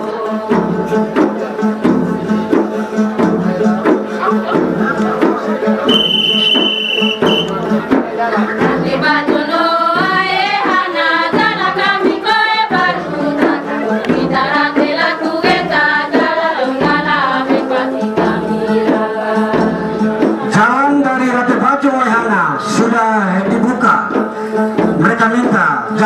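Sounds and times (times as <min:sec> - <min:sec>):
voices singing together: 0:00.0 - 0:21.7.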